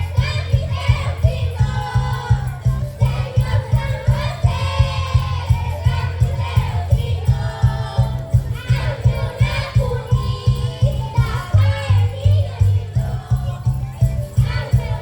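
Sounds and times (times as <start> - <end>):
backing track with low beat: 0.0 - 15.0
group singing a carol: 0.0 - 15.0.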